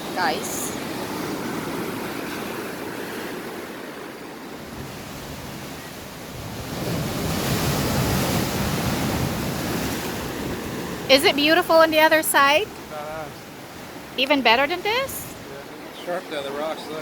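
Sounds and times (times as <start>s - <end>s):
surf washing on rocky shore: 0.0s - 17.0s.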